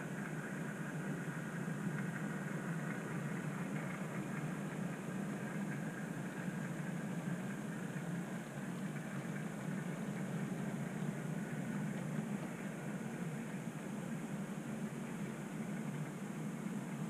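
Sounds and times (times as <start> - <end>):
model trains running on track: 0.0 - 17.0.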